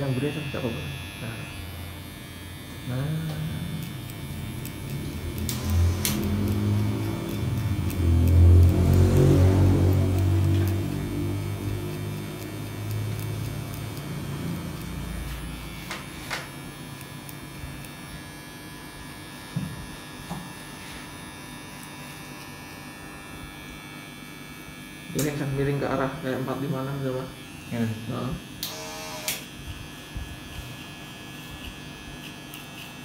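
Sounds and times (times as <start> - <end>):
electric hair clipper humming: 0.0 - 33.0.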